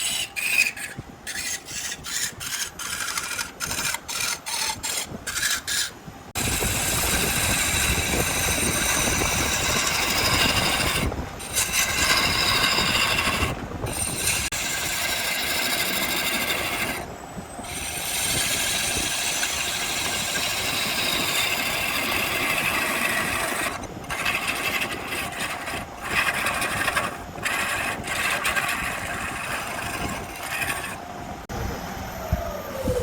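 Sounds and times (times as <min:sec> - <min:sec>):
turning tool scraping spinning wood: 0:00.0 - 0:31.1.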